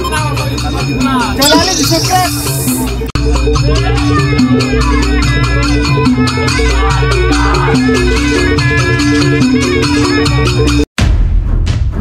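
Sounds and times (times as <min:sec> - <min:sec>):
music with fast percussive beat: 0:00.0 - 0:12.0.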